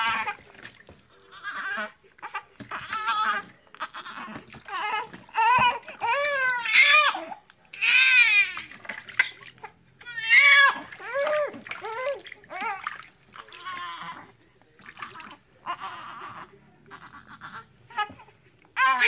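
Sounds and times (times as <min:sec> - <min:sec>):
baby crying: 0:01.3 - 0:08.7, 0:10.0 - 0:14.3, 0:15.1 - 0:19.0.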